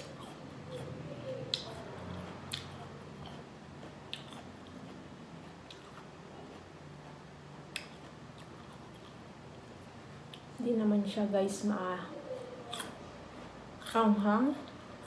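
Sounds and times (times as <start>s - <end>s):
soft chewing: 0.0s - 10.6s, 12.0s - 15.0s.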